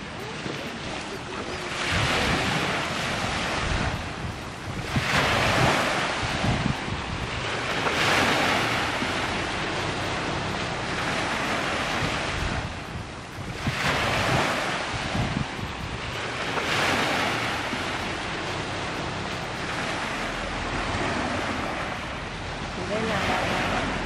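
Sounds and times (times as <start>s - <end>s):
sea waves washing onto shore: 0.0s - 24.0s
wind rumbling on microphone: 0.0s - 24.0s.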